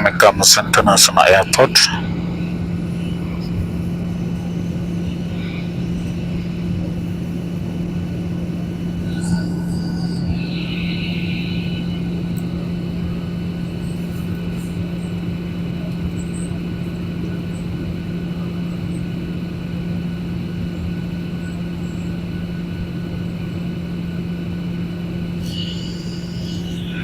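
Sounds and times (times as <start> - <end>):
airliner engine and airflow drone: 0.0 - 27.0.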